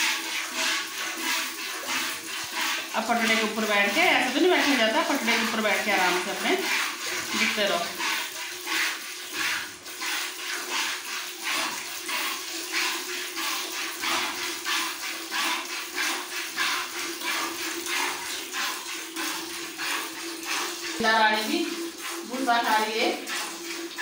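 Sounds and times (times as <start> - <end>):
milk squirting into vessel: 0.0 - 24.0.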